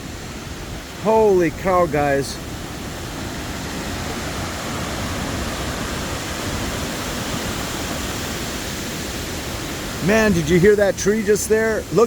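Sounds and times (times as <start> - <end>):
wind buffeting microphone: 0.0 - 11.0
wind blowing through trees: 0.0 - 12.0.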